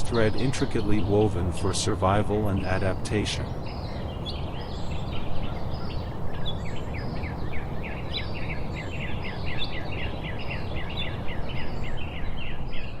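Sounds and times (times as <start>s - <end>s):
birds chirping chorus: 0.0s - 13.0s.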